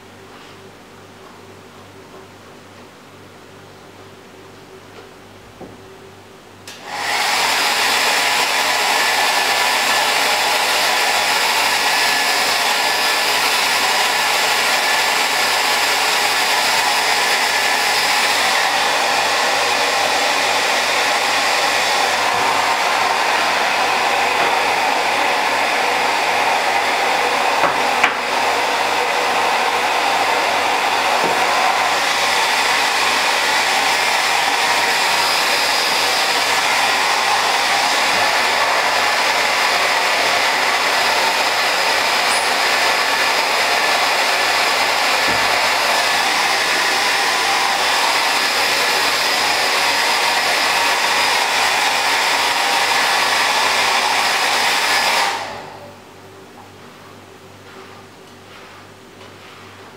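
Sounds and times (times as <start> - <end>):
hair dryer blowing: 6.7 - 56.0.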